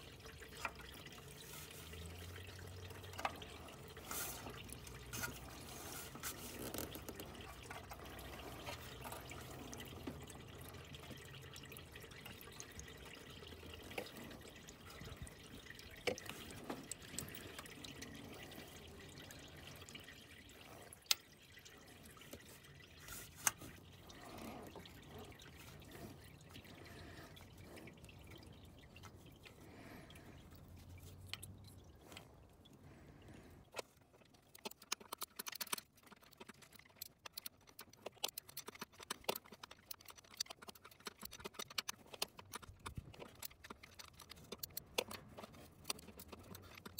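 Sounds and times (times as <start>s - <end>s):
coolant dripping and trickling: 0.0s - 46.9s.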